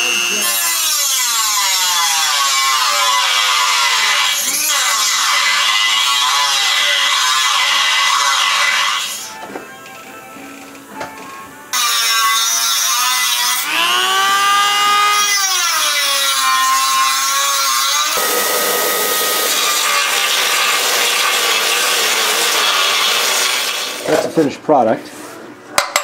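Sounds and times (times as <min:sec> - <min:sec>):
rotary tool grinding metal: 0:00.0 - 0:09.4, 0:11.7 - 0:24.3
rotary tool whining cutting metal: 0:00.0 - 0:09.4, 0:11.7 - 0:24.2.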